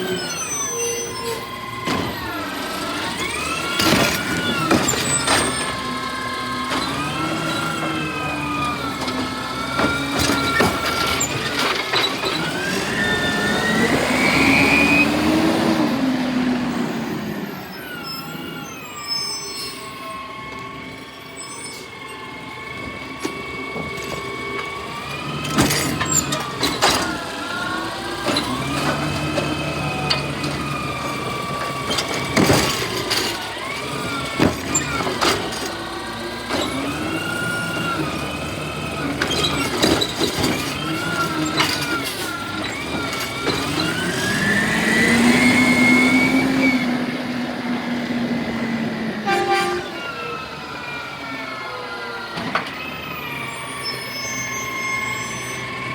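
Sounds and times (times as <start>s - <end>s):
garbage truck hydraulics whining: 0.0s - 55.9s.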